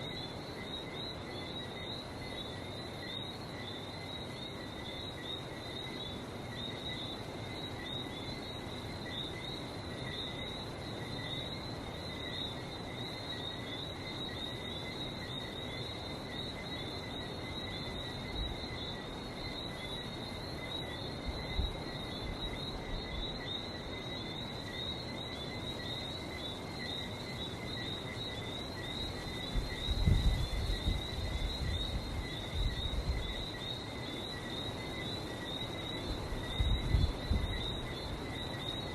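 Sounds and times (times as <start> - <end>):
frogs chirping: 0.0 - 38.9.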